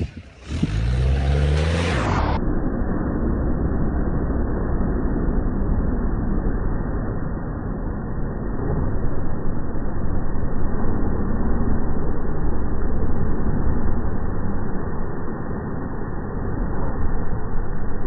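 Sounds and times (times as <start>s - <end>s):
engine working under load: 0.0s - 18.0s.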